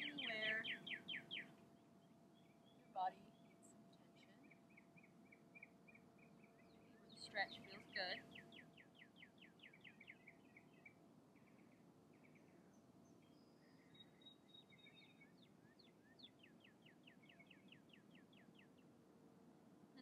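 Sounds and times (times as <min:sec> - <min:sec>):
songbird singing: 0:00.0 - 0:19.0
faint outdoor ambience: 0:00.0 - 0:20.0.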